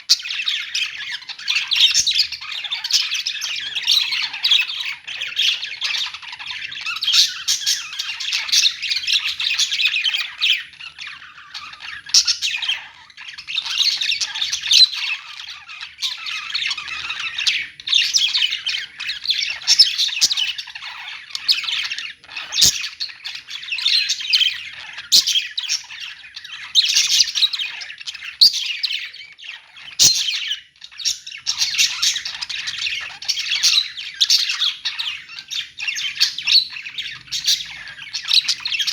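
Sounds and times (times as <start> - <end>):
parrots chattering and squawking: 0.0 - 38.9.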